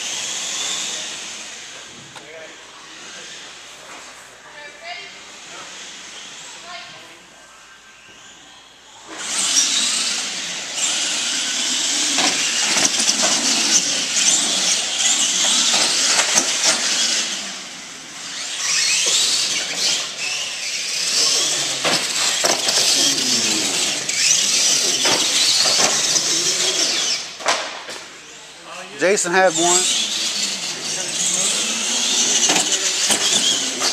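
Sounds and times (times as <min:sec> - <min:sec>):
rc truck motors whining: 0:00.0 - 0:04.0, 0:04.6 - 0:33.9.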